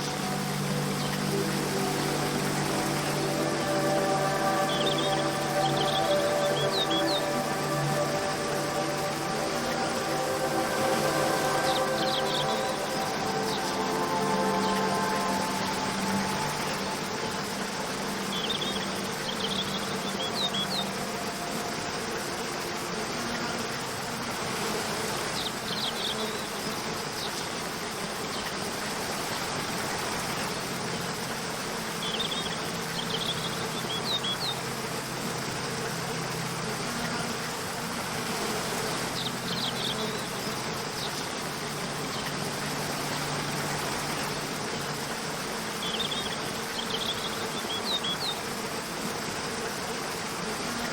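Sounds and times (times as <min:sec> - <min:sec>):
soft background music: 0:00.0 - 0:26.8, 0:27.8 - 0:50.9
waterfall rushing: 0:00.0 - 0:50.9.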